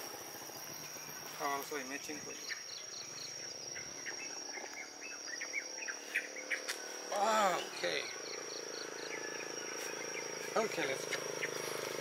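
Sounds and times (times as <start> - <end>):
insects droning: 0.0 - 12.0
short chirping calls: 0.8 - 12.0.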